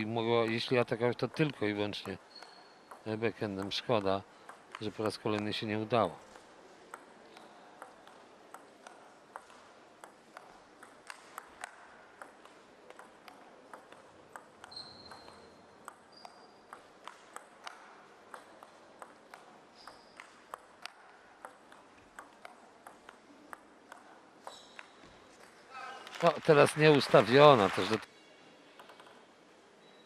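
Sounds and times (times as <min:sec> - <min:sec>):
table tennis ball ticks: 0:00.4 - 0:05.6, 0:06.3 - 0:25.5.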